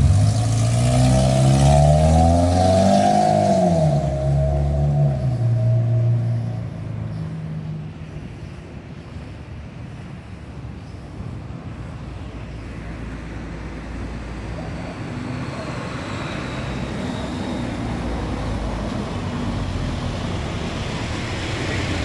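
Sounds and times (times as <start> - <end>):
car approaching: 0.0 - 22.0
low traffic rumble: 0.0 - 22.0.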